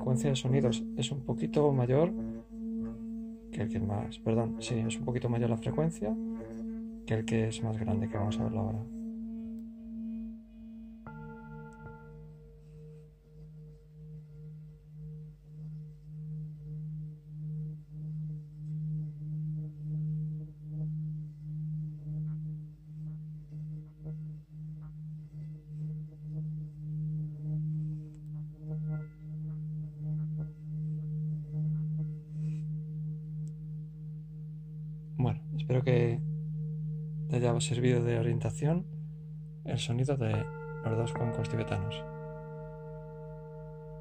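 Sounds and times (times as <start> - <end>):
singing bowl tone: 0.0 - 44.0.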